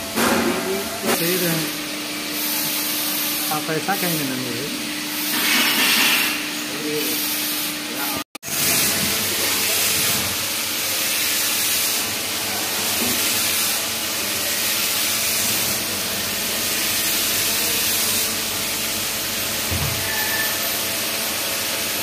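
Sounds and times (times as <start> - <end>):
lathe machining hiss: 0.2 - 22.0.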